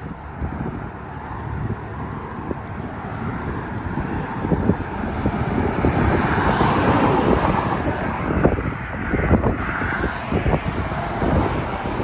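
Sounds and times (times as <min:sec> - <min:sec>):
highway traffic passing: 0:00.0 - 0:12.0
wind buffeting microphone: 0:00.0 - 0:12.0.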